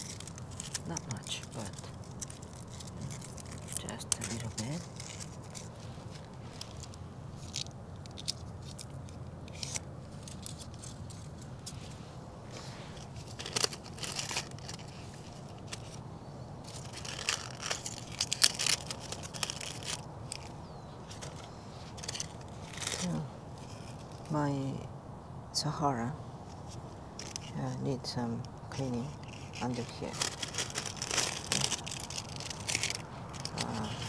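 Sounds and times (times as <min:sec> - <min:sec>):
dry leaves crackling: 0:00.0 - 0:25.0, 0:26.3 - 0:34.0
steady low hum: 0:00.0 - 0:34.0.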